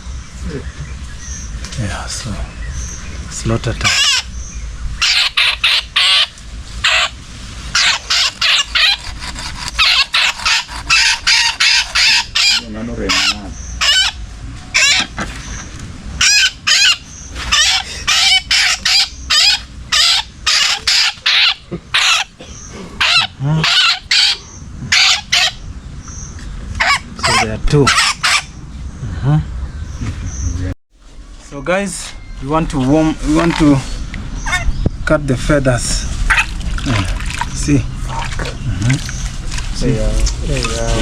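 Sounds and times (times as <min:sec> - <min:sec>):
birds squawking: 0:00.0 - 0:30.7, 0:32.1 - 0:35.0, 0:35.7 - 0:41.0.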